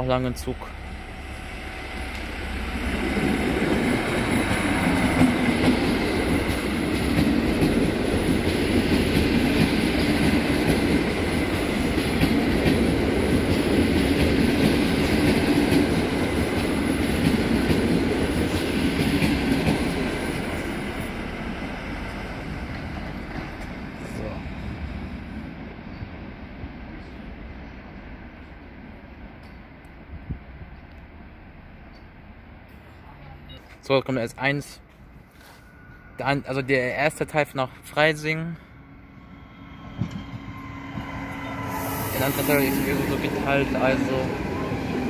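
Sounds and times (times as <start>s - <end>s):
train running past on rails: 0.0s - 45.0s.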